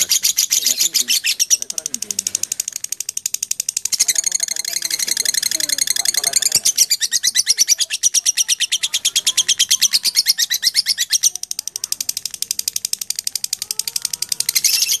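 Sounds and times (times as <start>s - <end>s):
bird chirping rapidly: 0.0s - 15.0s.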